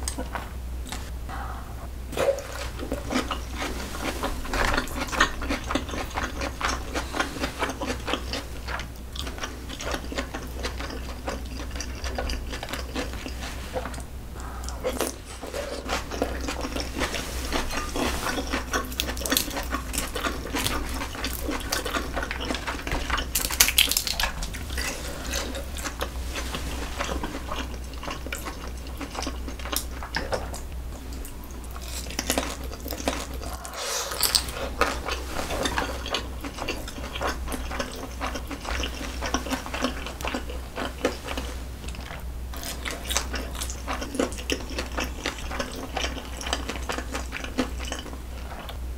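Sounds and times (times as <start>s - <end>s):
wet chewing: 0.0s - 48.8s.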